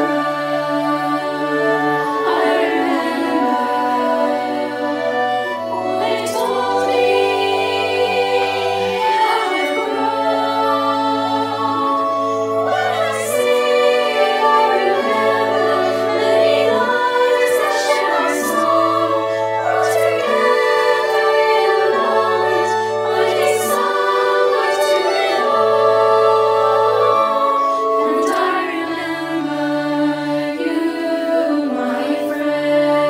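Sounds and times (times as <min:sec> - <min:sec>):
choir singing slow chords: 0:00.0 - 0:33.0.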